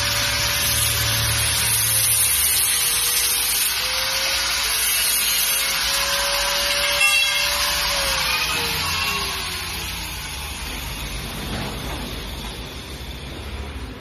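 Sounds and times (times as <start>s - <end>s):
angle grinder cutting metal: 0.0s - 13.8s.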